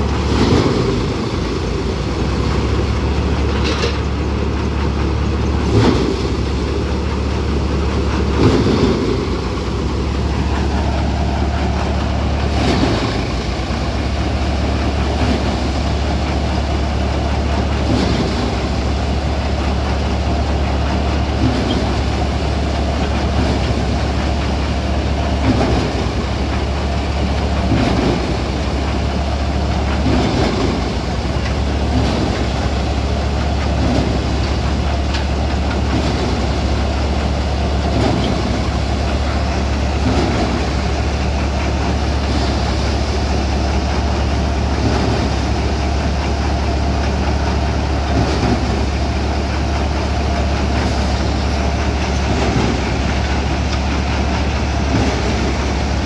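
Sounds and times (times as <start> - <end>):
thresher droning: 0.0 - 56.0
tractor engine hum: 0.0 - 56.0.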